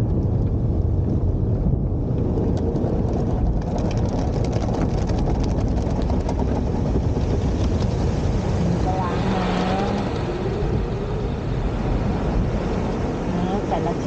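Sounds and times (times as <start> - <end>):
car wash rumble: 0.0 - 14.0
water jets spattering on car: 0.0 - 14.0.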